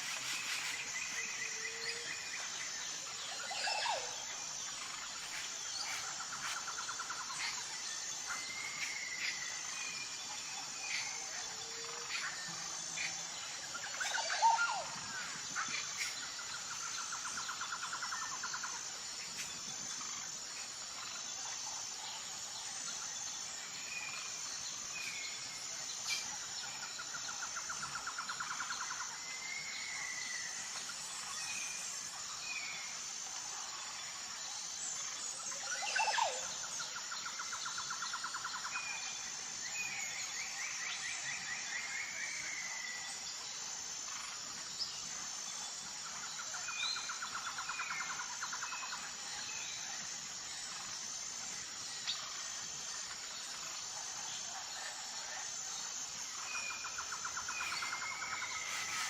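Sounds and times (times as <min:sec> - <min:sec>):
high insect chirping: 0:00.0 - 0:59.0.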